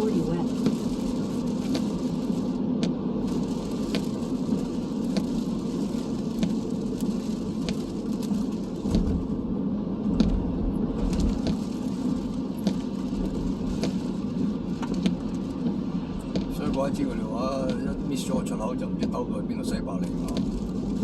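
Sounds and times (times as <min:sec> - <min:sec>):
car road and engine noise: 0:00.0 - 0:21.0
low rumble: 0:00.0 - 0:21.0.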